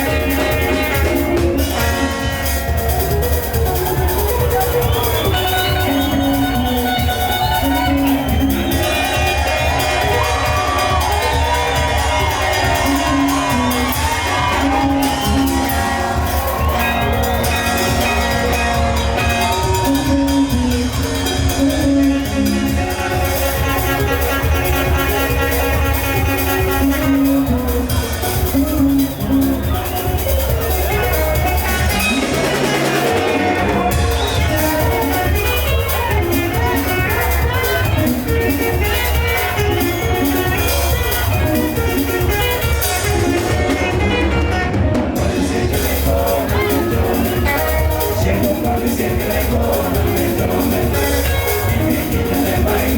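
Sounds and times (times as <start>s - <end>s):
heavy bass line: 0.0s - 52.9s
live band music: 0.0s - 52.9s
steady drum beat: 0.0s - 52.9s.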